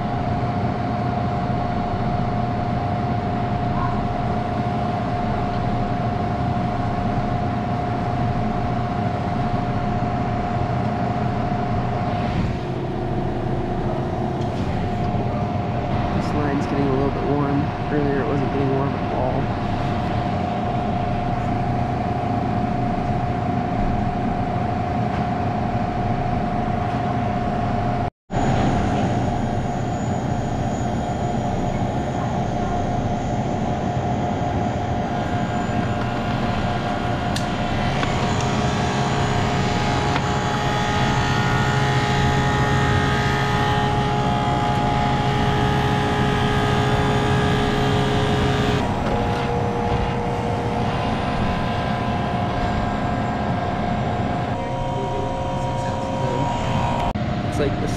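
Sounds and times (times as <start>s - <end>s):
compressor and fan humming: 0.0s - 57.9s
deeper hum: 3.3s - 24.6s, 27.8s - 57.9s.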